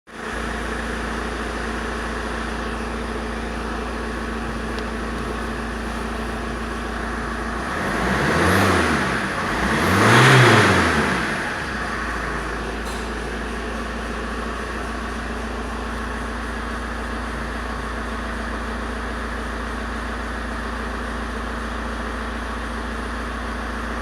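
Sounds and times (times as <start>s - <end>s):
diesel engine idling and revving: 0.1s - 24.0s.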